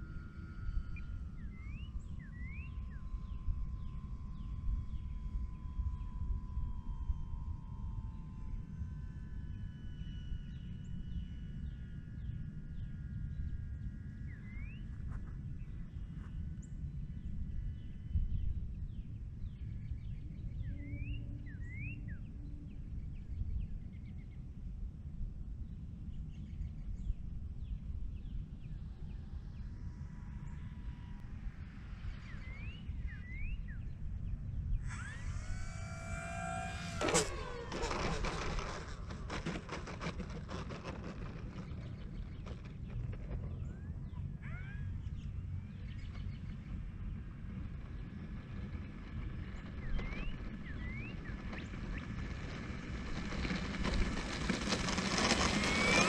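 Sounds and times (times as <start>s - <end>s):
electric motor and propeller whine: 0.0s - 56.0s
wind rumbling on microphone: 0.0s - 56.0s.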